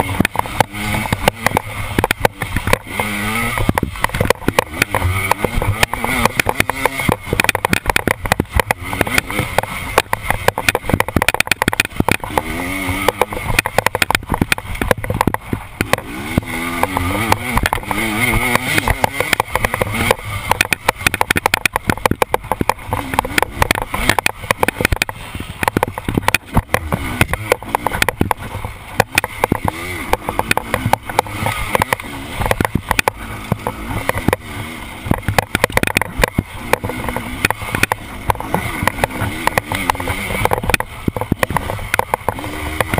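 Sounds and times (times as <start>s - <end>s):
bike clattering over bumps: 0.0s - 42.9s
dirt bike engine revving: 0.0s - 42.9s.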